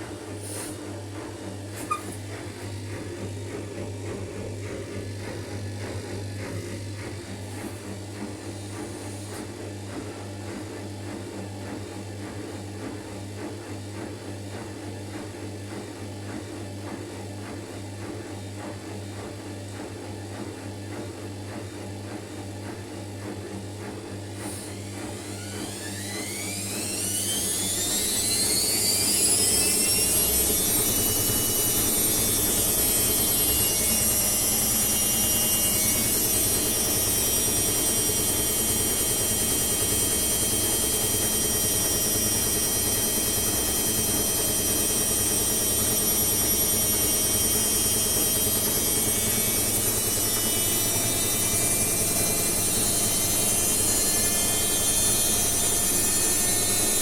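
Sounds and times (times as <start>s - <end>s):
washing machine spinning whine: 0.0s - 57.0s.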